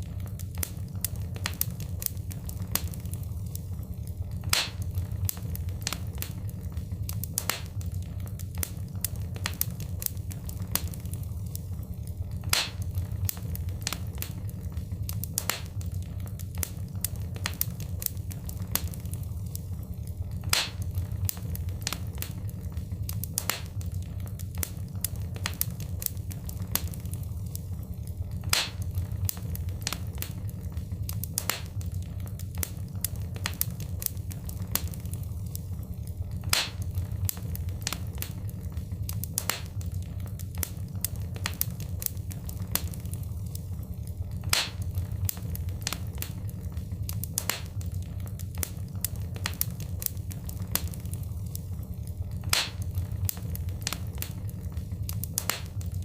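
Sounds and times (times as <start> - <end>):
low rumble: 0.0 - 56.0
wood fire crackling and popping: 0.0 - 56.0.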